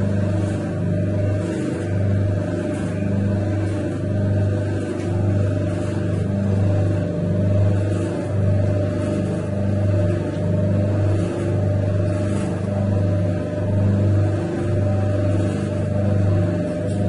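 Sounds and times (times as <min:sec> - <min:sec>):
dough mixer humming: 0:00.0 - 0:17.0.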